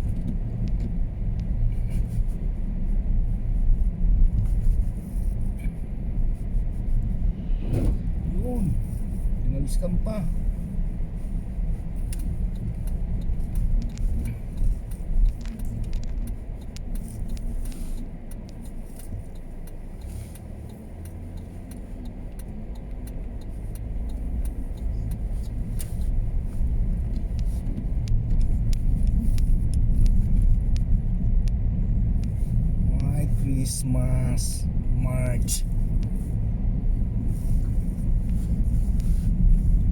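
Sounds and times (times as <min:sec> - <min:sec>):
car engine and tyres rumbling: 0:00.0 - 0:39.9
light ticks: 0:00.0 - 0:39.9.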